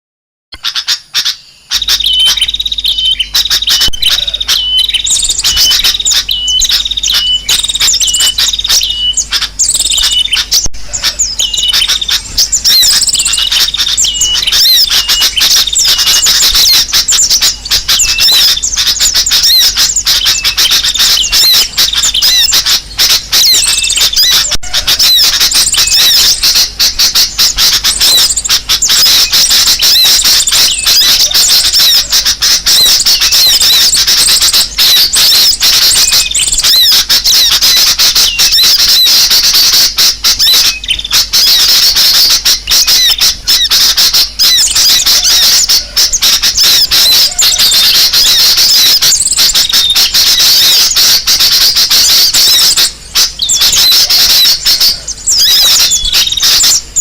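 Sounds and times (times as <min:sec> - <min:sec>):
small birds chattering: 0:00.6 - 0:57.0.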